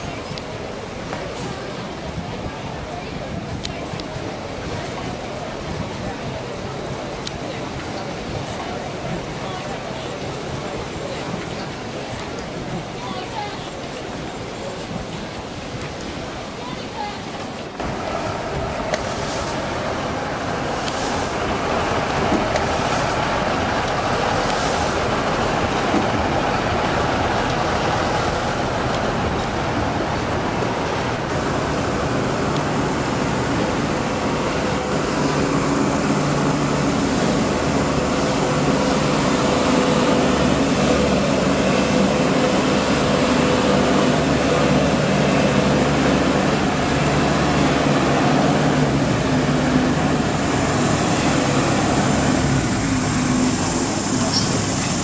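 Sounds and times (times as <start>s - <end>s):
constant rush of noise: 0.0s - 55.0s.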